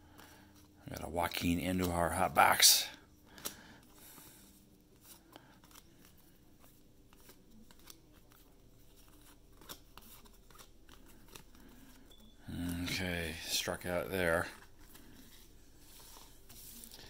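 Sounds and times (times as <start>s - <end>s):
cardboard cards ticking and sliding: 2.9s - 17.0s.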